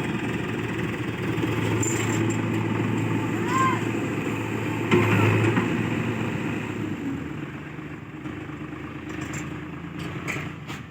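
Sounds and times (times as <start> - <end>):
heavy diesel engine running: 0.0 - 10.9.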